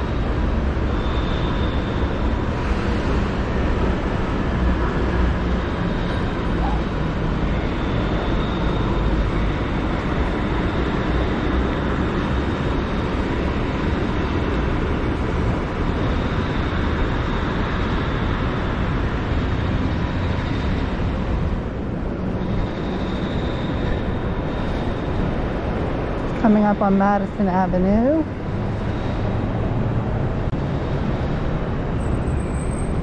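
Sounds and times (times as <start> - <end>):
faint high whine: 0.0 - 29.5
low rumble of traffic: 0.0 - 33.0.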